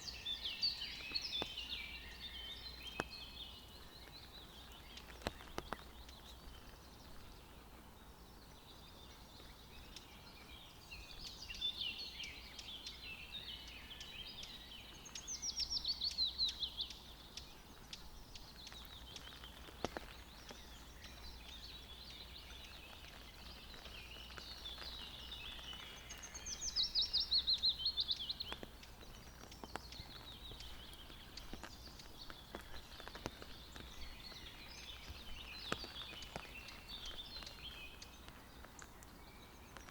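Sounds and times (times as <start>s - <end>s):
birds warbling song: 0.0s - 39.9s
low background hiss: 0.0s - 39.9s.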